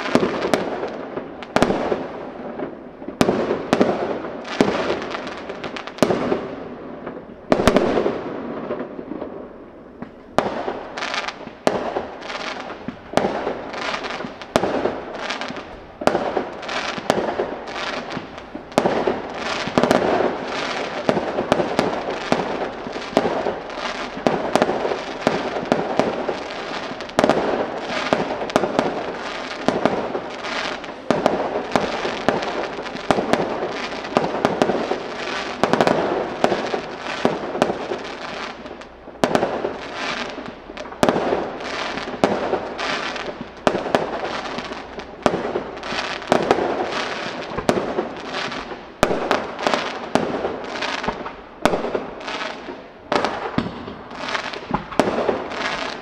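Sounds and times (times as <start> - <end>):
fireworks bursting with sharp bangs: 0.0 - 56.0
fireworks crackling: 0.0 - 56.0.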